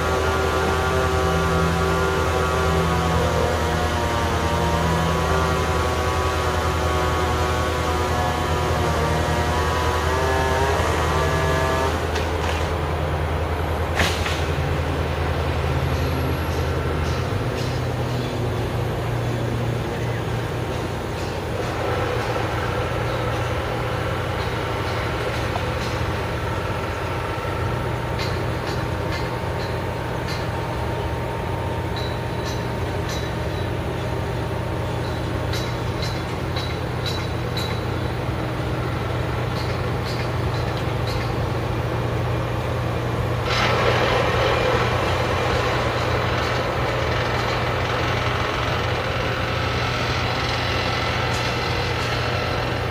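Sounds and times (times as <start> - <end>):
heavy engine running: 0.0 - 52.9.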